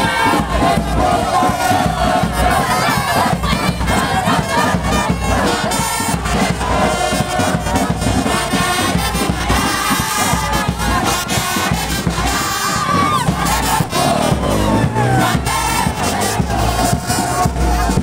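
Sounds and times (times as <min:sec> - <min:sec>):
brass band music: 0:00.0 - 0:18.0
crowd shouting: 0:00.0 - 0:18.0.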